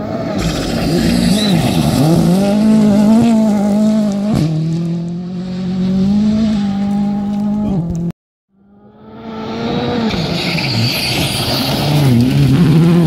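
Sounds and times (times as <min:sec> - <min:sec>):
gravel and tyre noise: 0:00.0 - 0:13.0
rally car engine passing: 0:00.0 - 0:13.0.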